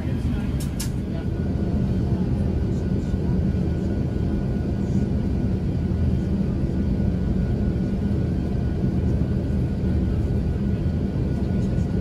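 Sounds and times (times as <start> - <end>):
airplane cabin rumble: 0.0 - 12.0
faint engine whine: 0.0 - 12.0.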